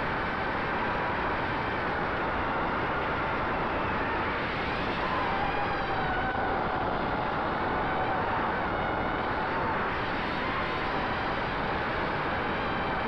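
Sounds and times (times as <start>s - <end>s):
rushing wind noise: 0.0s - 13.0s.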